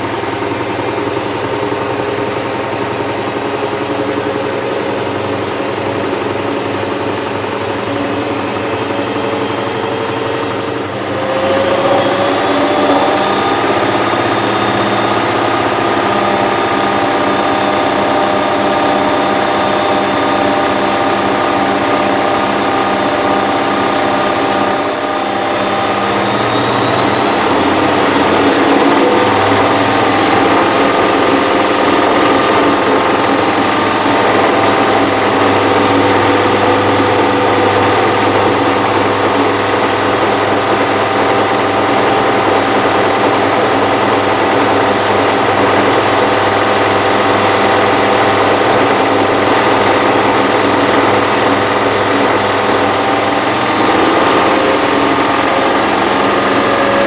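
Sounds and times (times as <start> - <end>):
washer-dryer whining: 0.0 - 57.0.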